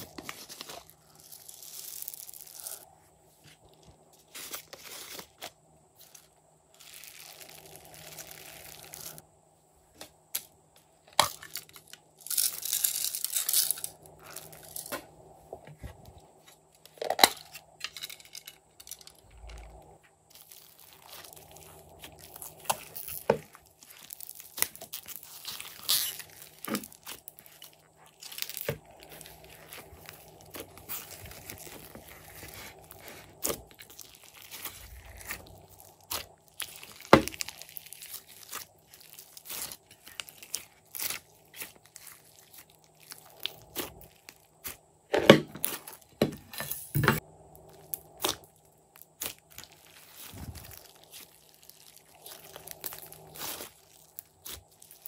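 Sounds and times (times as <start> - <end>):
slime squishing and squelching: 3.7 - 9.2, 10.8 - 16.9, 19.2 - 46.5, 47.6 - 55.0.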